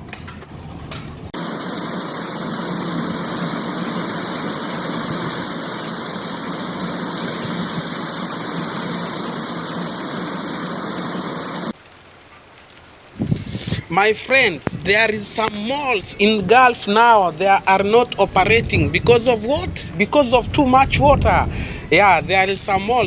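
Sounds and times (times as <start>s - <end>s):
water rushing: 1.3s - 20.4s.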